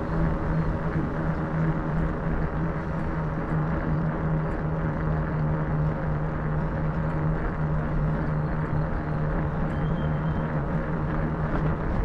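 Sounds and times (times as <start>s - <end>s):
bike tyres rolling on pavement: 0.0s - 12.0s.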